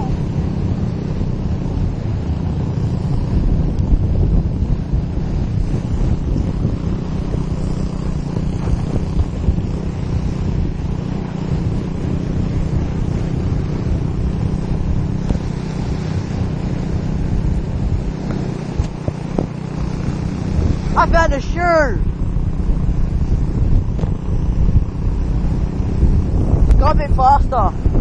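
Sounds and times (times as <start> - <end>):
motorbike engine running: 0.0 - 28.0
wind buffeting microphone: 0.0 - 28.0.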